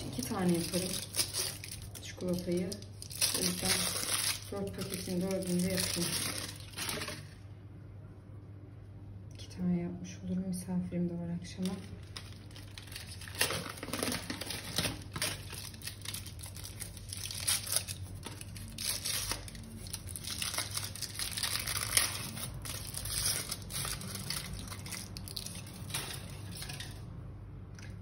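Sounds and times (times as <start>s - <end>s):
plastic wrapper crinkling and tearing: 0.0s - 7.5s, 11.5s - 27.1s.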